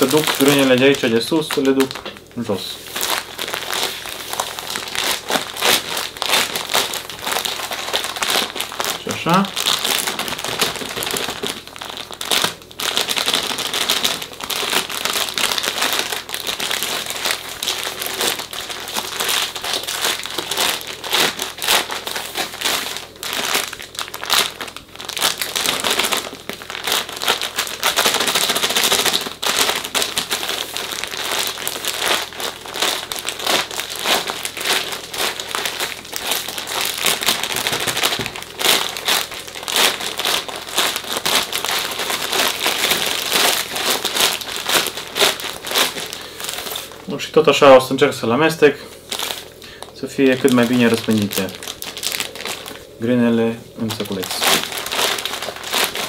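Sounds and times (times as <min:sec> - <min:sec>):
grain shifting and rattling: 0:00.0 - 0:48.1, 0:49.1 - 0:56.0
plastic bag crinkling: 0:00.0 - 0:56.0.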